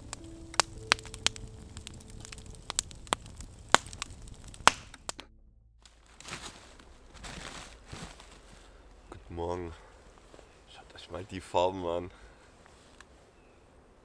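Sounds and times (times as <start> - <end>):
campfire crackling and popping: 0.0 - 11.7.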